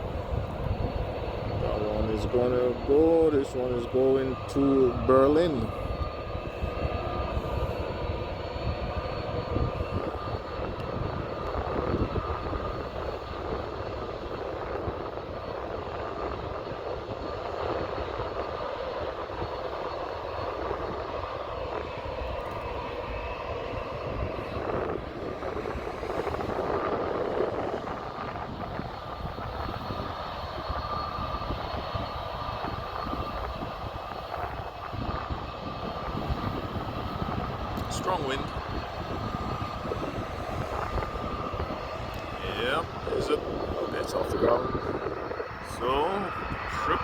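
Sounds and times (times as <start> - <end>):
jet engines at takeoff power: 0.0 - 47.0.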